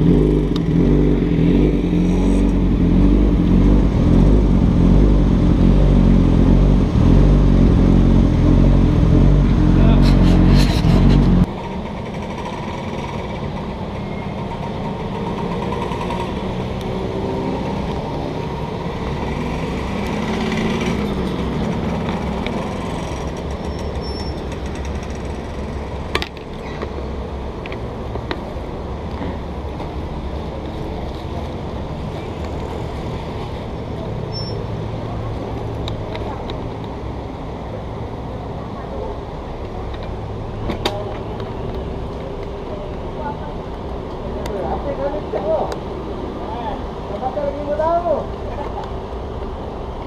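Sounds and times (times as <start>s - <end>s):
engine and traffic rumble: 0.0s - 50.0s.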